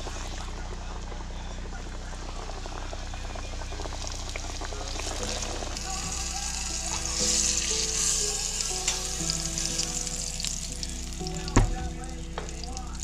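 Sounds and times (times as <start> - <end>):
fish sizzling in hot oil: 2.5 - 13.0.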